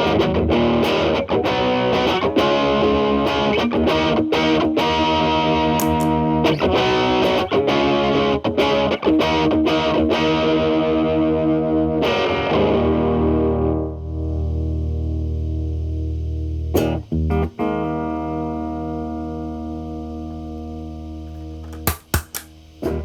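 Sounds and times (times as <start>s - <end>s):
distorted electric guitar: 0.0s - 21.8s, 22.6s - 23.0s.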